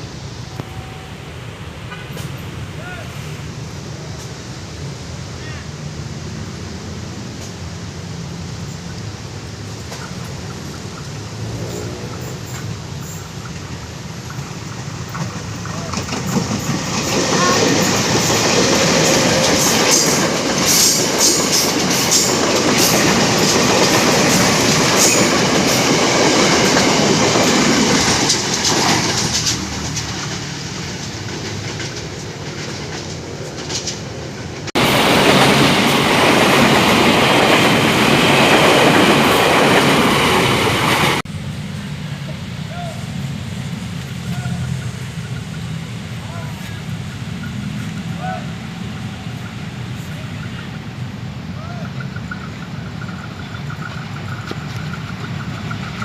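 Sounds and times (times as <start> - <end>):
train wheels clattering on rails: 1.8 - 2.6, 9.5 - 41.2, 43.6 - 56.0.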